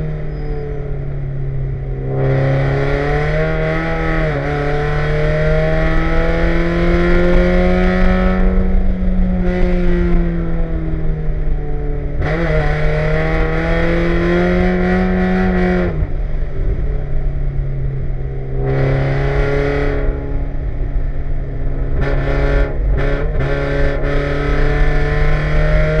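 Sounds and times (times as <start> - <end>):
racing car engine revving: 1.8 - 17.4, 18.0 - 26.0.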